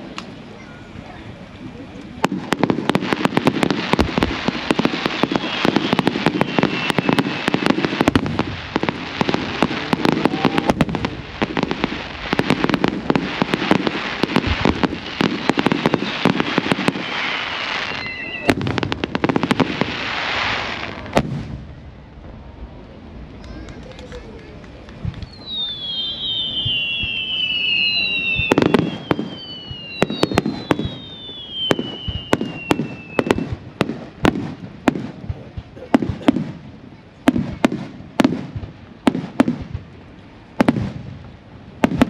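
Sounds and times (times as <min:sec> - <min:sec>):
fireworks crackling and booming: 0:00.0 - 0:42.0.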